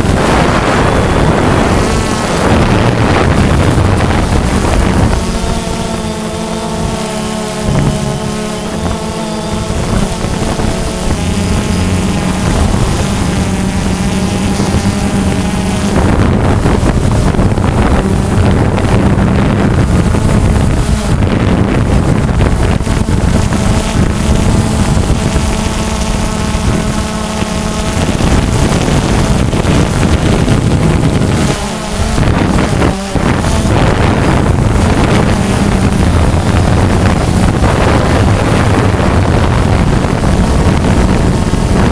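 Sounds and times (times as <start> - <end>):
drone propellers buzzing: 0.0 - 41.9
wind noise on microphone: 0.0 - 41.9.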